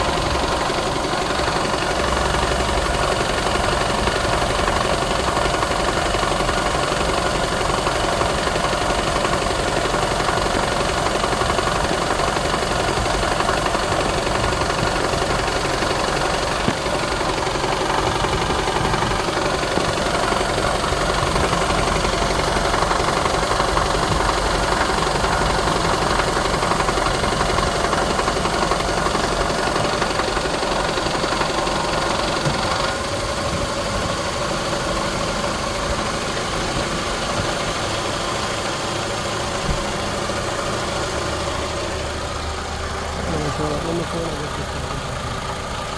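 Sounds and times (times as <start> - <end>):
car engine running: 0.0 - 45.9
engine rattle: 0.0 - 45.9.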